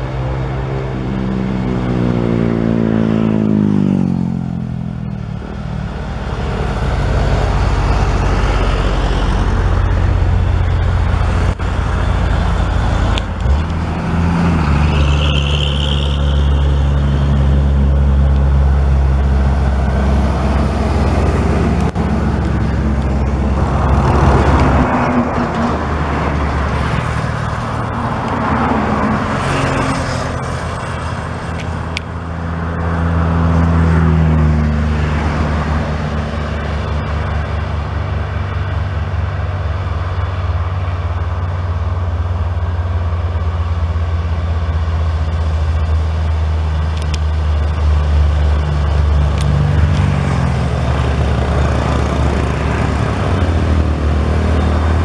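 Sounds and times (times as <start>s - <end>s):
truck diesel engine labouring: 0.0s - 55.0s.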